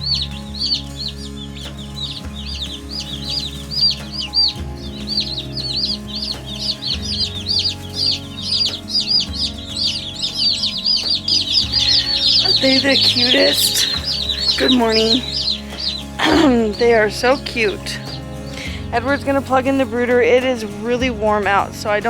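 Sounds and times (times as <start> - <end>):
chicks peeping: 0.0 - 20.7.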